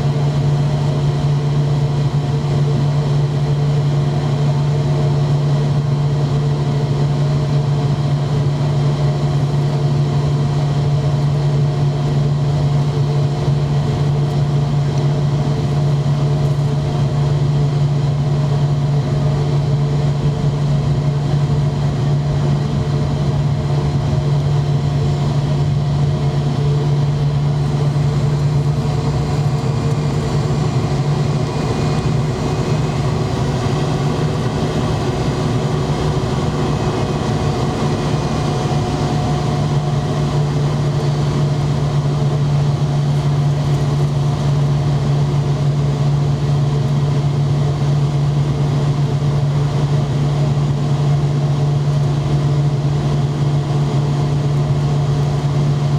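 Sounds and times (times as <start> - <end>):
airliner engines droning: 0.0 - 55.9.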